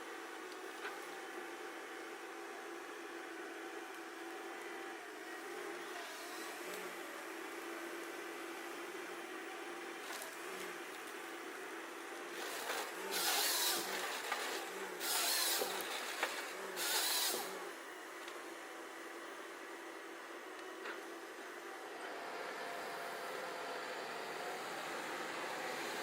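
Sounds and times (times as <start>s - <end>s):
forestry machine running: 0.0s - 26.0s.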